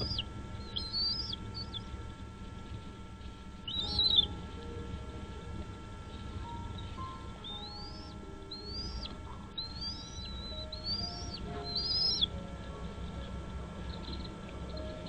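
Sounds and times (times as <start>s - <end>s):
bird chirping: 0.0s - 2.2s, 3.6s - 15.0s.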